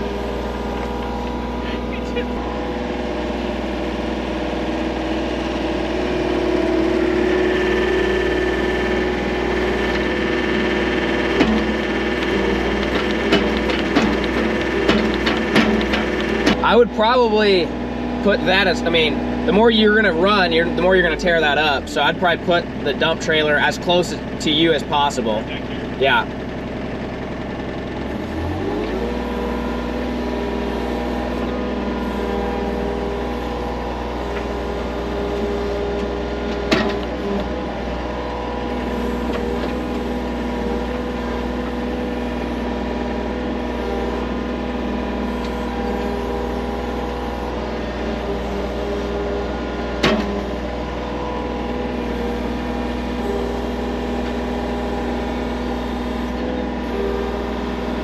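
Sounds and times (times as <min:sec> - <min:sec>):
heavy machinery engine running: 0:00.0 - 0:58.0.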